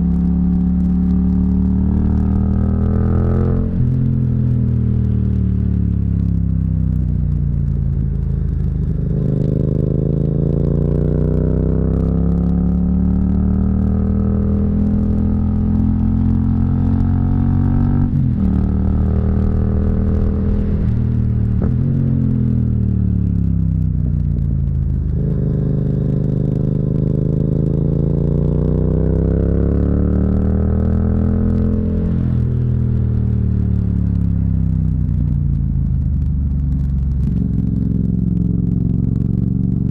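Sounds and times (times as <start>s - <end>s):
motorcycle engine revving: 0.0s - 35.3s.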